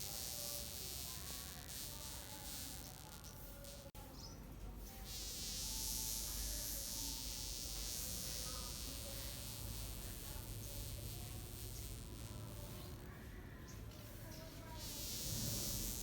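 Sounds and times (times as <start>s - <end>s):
wasp buzzing: 0.0s - 4.0s, 4.8s - 16.0s.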